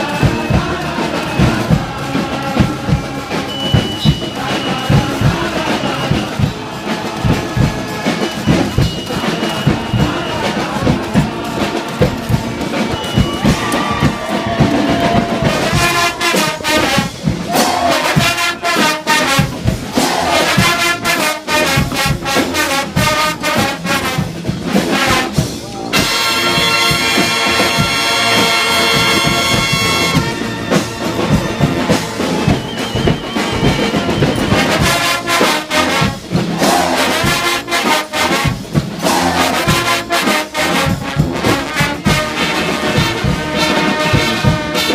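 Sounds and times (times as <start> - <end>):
brass band playing: 0.0 - 44.9.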